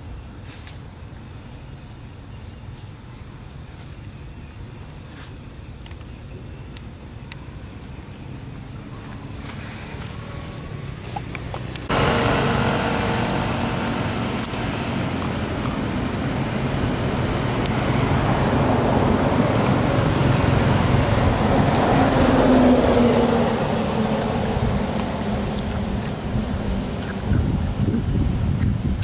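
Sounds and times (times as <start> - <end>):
faint low engine hum: 0.0 - 29.0
road traffic noise: 0.0 - 29.0.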